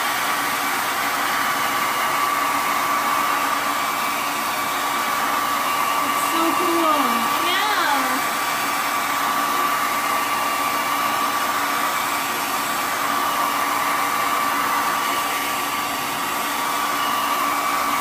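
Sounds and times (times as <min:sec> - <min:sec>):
blow dryer running: 0:00.0 - 0:18.0.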